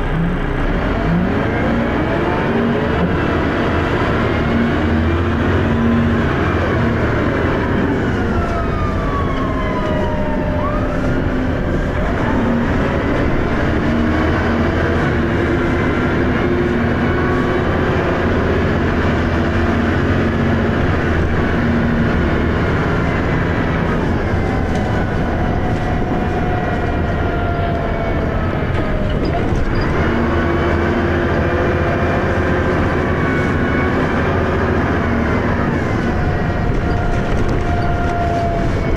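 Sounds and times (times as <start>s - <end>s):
bus engine and gearbox whine: 0.0s - 38.9s.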